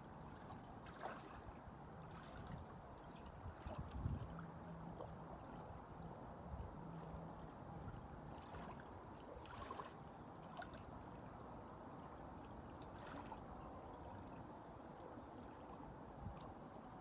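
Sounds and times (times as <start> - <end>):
small waves lapping: 0.0 - 17.0.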